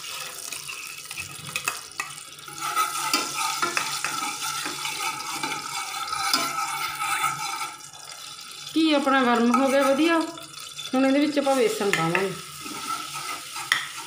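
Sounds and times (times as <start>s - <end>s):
spoon scraping a steel saucepan: 0.0s - 7.9s, 9.0s - 14.0s.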